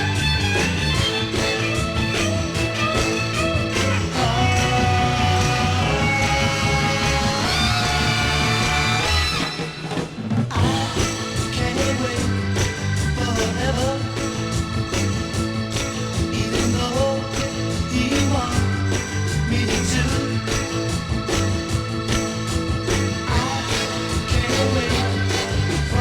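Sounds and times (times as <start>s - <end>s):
rock music with electric guitar: 0.0s - 26.0s.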